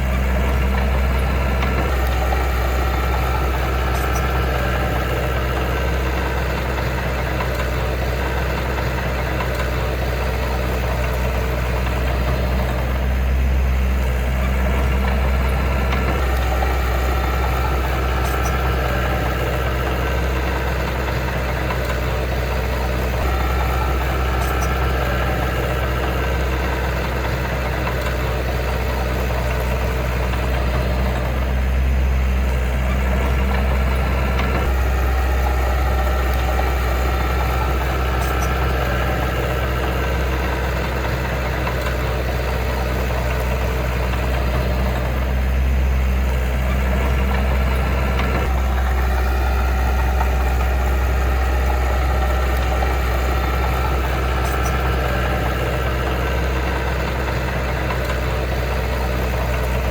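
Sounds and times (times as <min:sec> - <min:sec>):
diesel engine droning at low revs: 0:00.0 - 0:59.9.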